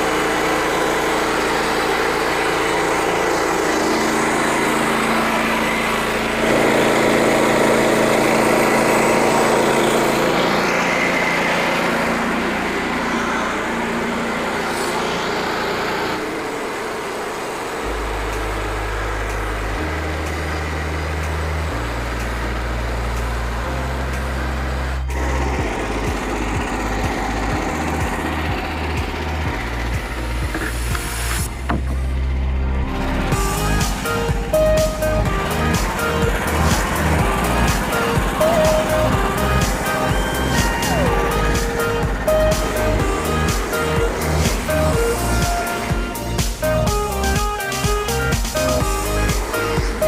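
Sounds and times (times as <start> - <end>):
band sawmill engine running: 0.0 - 50.0.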